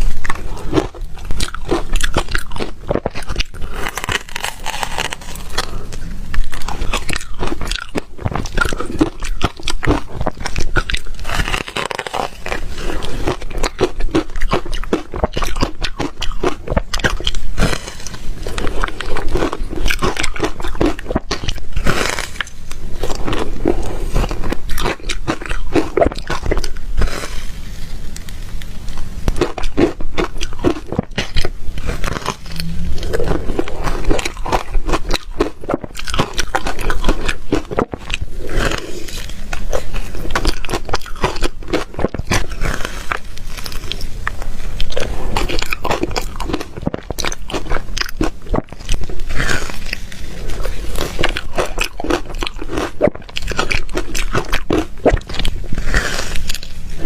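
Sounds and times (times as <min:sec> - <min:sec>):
ice crunching between teeth: 0:00.0 - 0:27.5, 0:28.6 - 0:57.0.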